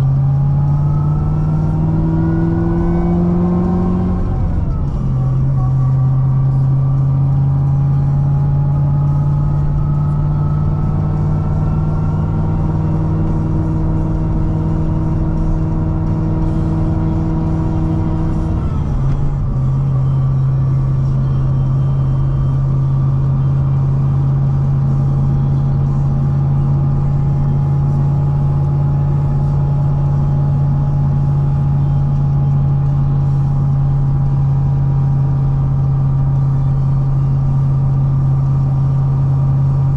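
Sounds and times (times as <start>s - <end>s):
supercharged car engine cruising: 0.0s - 39.9s.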